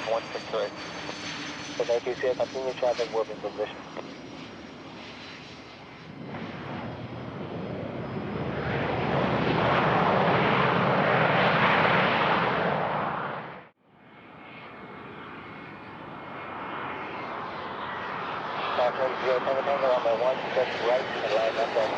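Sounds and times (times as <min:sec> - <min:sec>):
jet engines running: 0:00.0 - 0:21.9.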